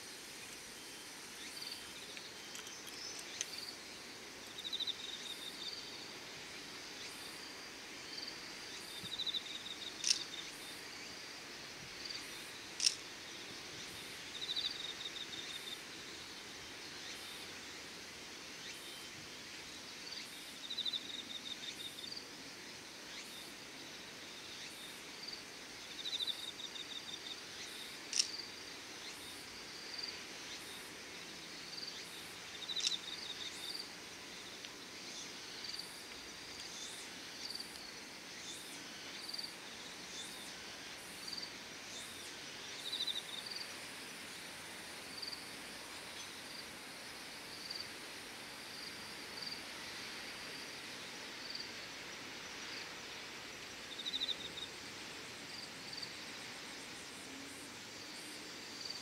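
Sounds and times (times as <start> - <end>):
insects chirping: 0.0 - 59.0
steady hiss: 0.0 - 59.0.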